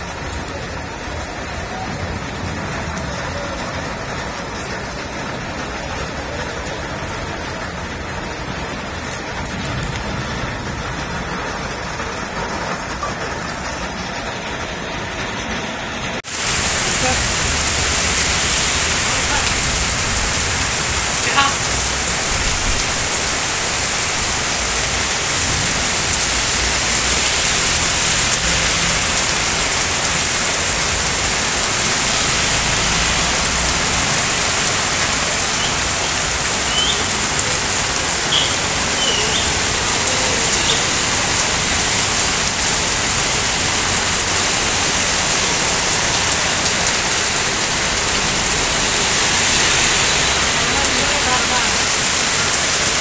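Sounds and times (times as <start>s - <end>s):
heavy rain on street: 0.0s - 53.0s.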